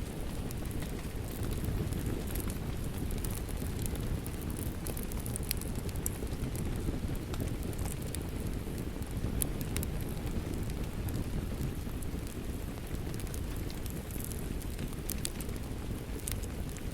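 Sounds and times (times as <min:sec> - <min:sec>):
crackling wood fire: 0:00.0 - 0:16.9
steady rain: 0:00.0 - 0:16.9.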